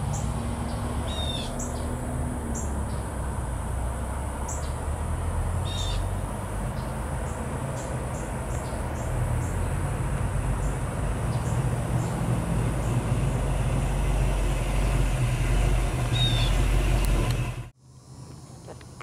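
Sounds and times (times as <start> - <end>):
car engine driving by: 0.0 - 17.7.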